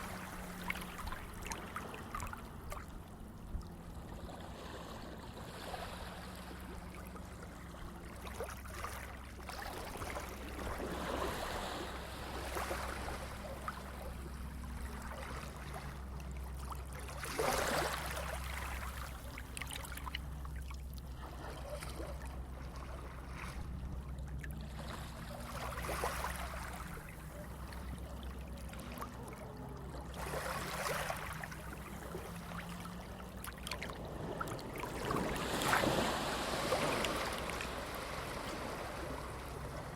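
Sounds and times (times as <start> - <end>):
sea waves washing in: 0.0 - 3.1, 3.8 - 39.9
steady low hum: 0.0 - 39.9.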